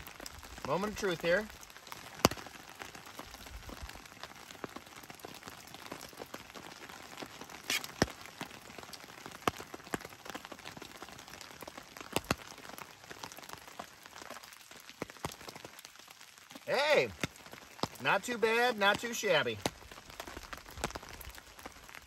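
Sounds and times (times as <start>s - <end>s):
rain pattering on a tarp: 0.0s - 22.0s.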